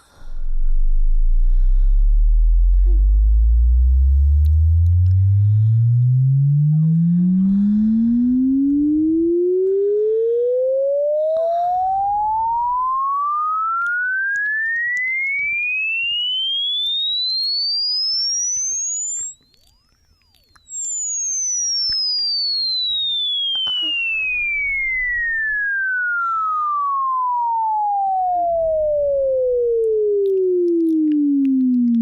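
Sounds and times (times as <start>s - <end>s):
sine-wave sweep test tone: 0.0s - 32.0s.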